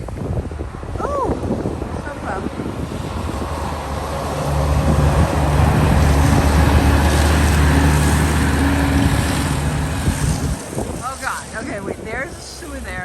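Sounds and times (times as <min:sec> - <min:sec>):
engine humming: 0:00.0 - 0:13.0
rushing noise: 0:00.0 - 0:13.0.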